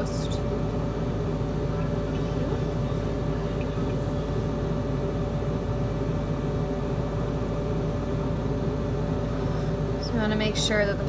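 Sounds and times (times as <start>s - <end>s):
extractor fan humming: 0.0s - 11.0s.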